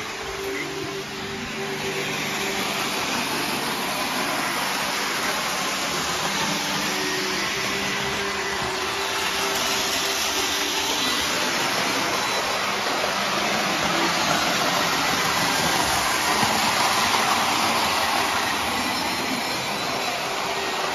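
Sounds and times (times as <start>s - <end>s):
model trains whirring on track: 0.0s - 20.9s.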